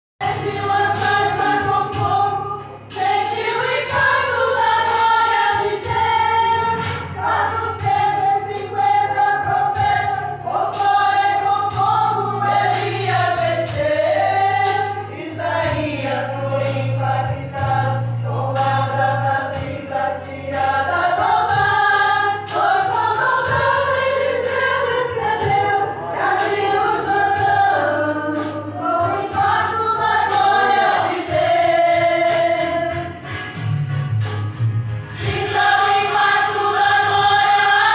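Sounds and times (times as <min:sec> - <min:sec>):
voices singing gospel song: 0:00.2 - 0:33.6, 0:34.9 - 0:37.9
low instrumental accompaniment: 0:00.2 - 0:37.9.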